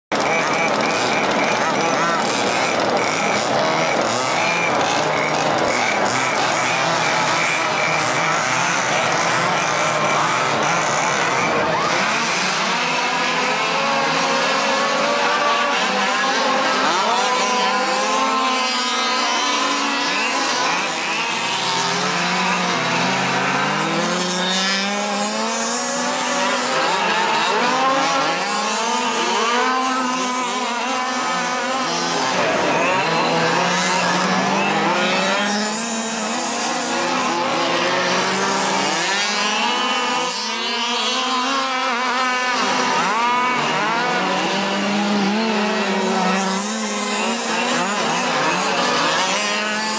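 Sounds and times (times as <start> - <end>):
small two-stroke engines buzzing: 0.1 - 49.9.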